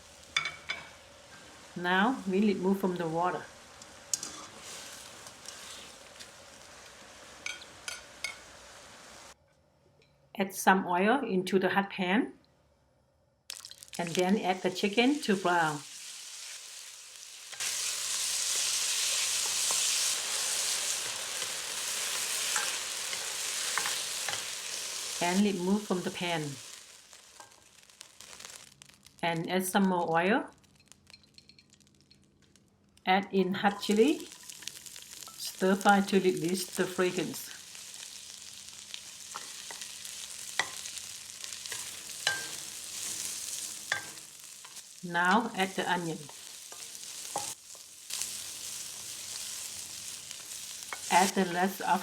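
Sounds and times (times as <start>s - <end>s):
chicken sizzling in hot oil: 0.0s - 9.4s, 13.5s - 29.2s, 33.7s - 52.0s.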